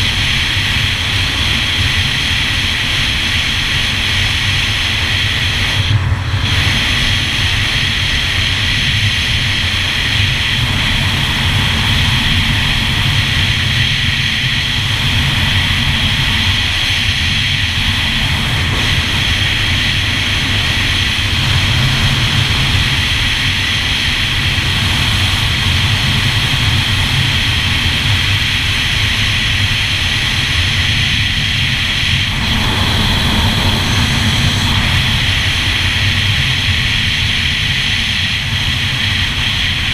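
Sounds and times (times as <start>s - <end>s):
watercraft engine running: 0.0s - 39.9s.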